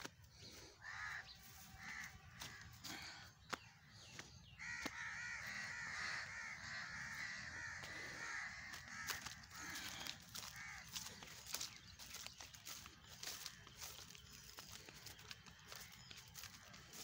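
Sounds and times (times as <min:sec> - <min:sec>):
harsh bird calls: 0:00.0 - 0:17.0.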